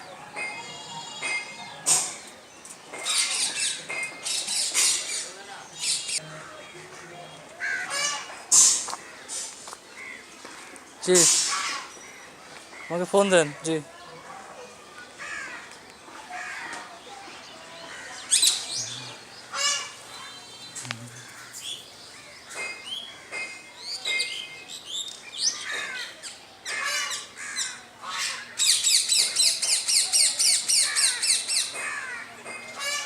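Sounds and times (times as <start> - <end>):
birds chirping and calling: 0.0 - 33.0.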